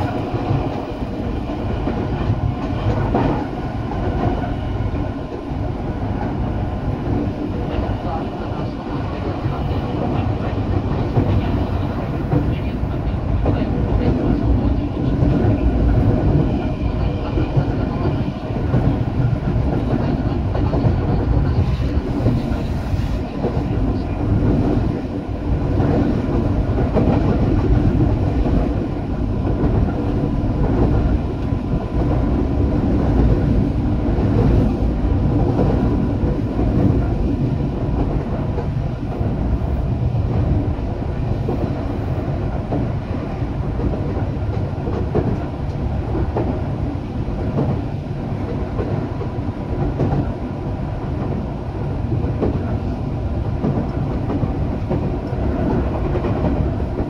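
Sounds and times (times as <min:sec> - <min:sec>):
rumble of train wheels: 0:00.0 - 0:57.0.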